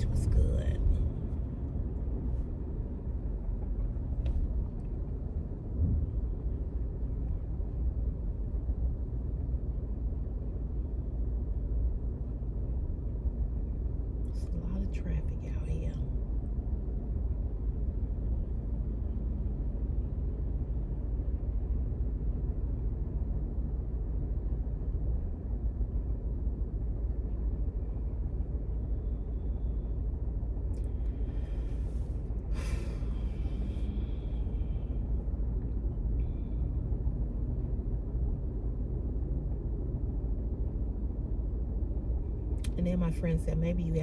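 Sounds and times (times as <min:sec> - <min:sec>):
car engine and road noise: 0:00.0 - 0:26.4, 0:27.4 - 0:44.0.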